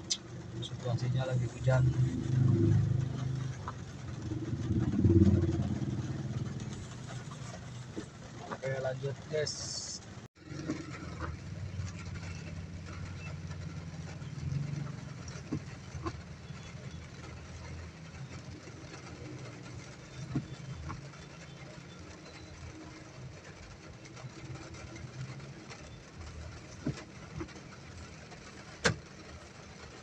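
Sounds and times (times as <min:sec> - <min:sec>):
car engine rumble: 0:00.0 - 0:30.0
rain hiss: 0:00.0 - 0:30.0.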